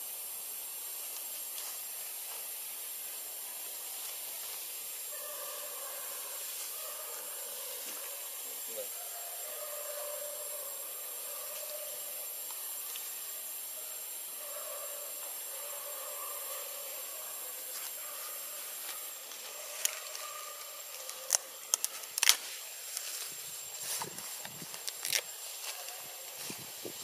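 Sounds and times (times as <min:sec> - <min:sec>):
high outdoor hiss: 0:00.0 - 0:27.0.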